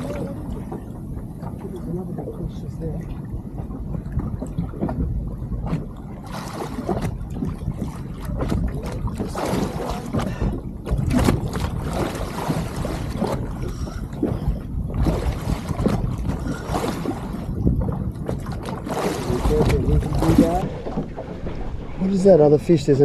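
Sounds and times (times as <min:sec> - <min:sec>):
water lapping against boat hull: 0:00.0 - 0:23.0
wind buffeting microphone: 0:00.0 - 0:23.0.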